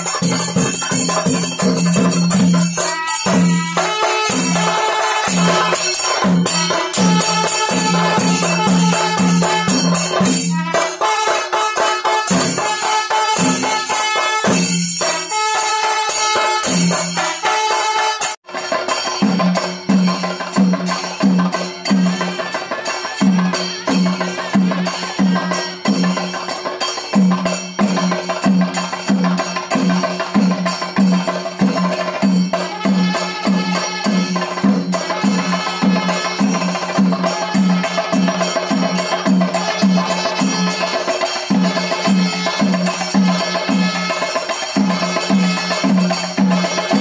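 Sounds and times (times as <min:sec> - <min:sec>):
cymbals clashing: 0:00.0 - 0:47.0
drums beating: 0:00.0 - 0:47.0.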